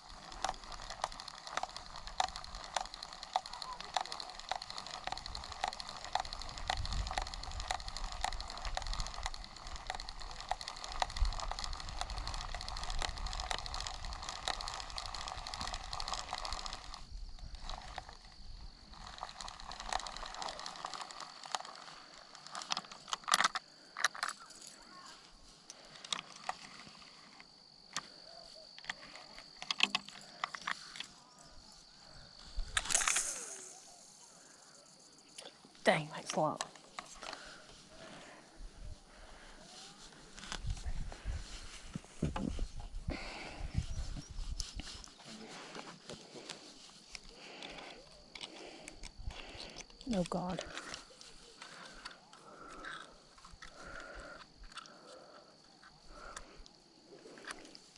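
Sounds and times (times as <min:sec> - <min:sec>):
fishing reel whirring and clicking: 0:00.0 - 0:41.8, 0:42.7 - 0:56.7
insect trilling: 0:00.0 - 0:57.9.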